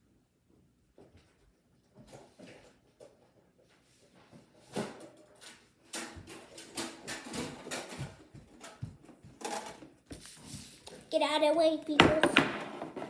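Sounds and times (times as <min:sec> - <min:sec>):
knocks and thumps in a house: 0:00.5 - 0:10.2, 0:11.6 - 0:13.0.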